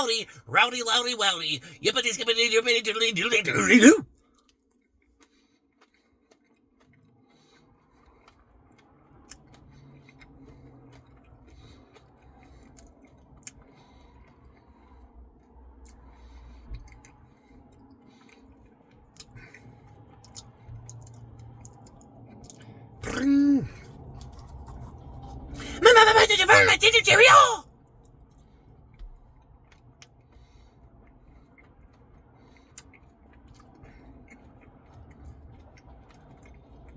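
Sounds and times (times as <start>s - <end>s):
chewing and mouth sounds: 1.6s - 14.7s, 16.8s - 26.7s, 29.6s - 36.9s.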